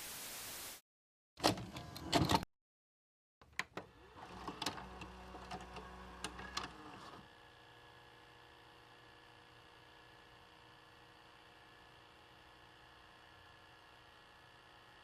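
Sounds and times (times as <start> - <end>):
tape player whirring: 1.4 - 2.4, 3.4 - 15.0.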